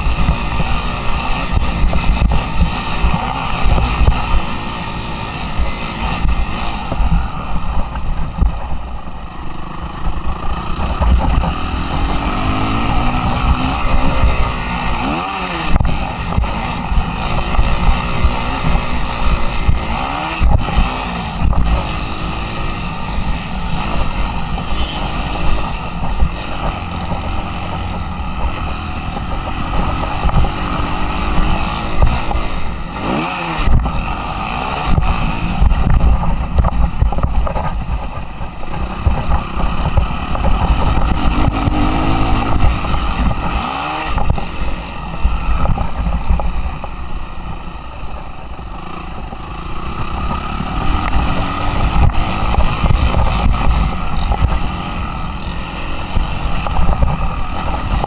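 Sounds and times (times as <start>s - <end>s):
motocross engine revving: 0.0s - 7.5s, 9.5s - 36.8s, 38.7s - 46.8s, 48.6s - 58.0s
wind buffeting microphone: 0.0s - 58.0s.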